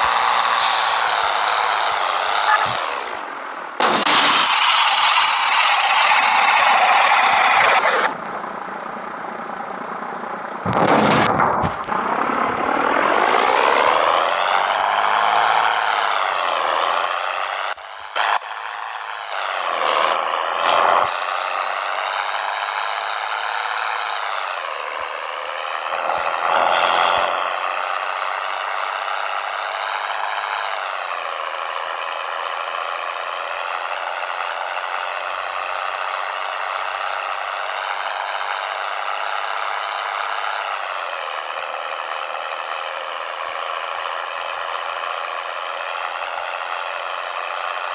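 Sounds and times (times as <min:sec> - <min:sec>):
diesel truck engine under load: 0:00.0 - 0:47.9.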